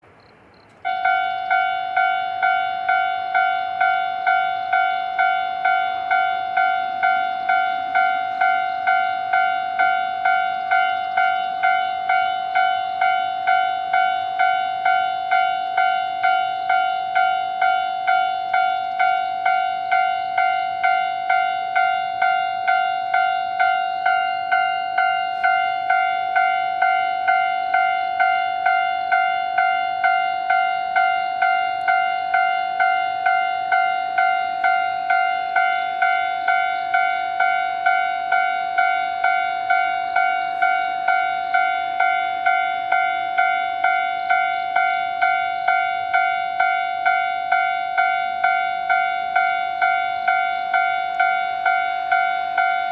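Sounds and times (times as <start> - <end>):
railroad crossing bell ringing: 0.0 - 52.9.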